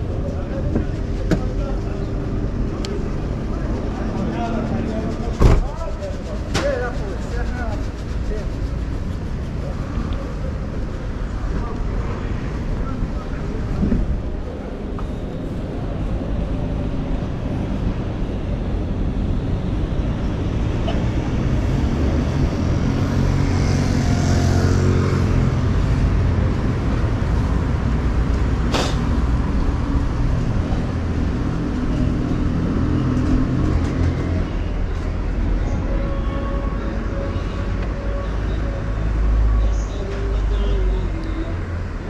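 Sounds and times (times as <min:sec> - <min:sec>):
street traffic: 0:00.0 - 0:42.0
vehicle engine hum: 0:00.0 - 0:42.0
wind and road rumble: 0:00.0 - 0:42.0.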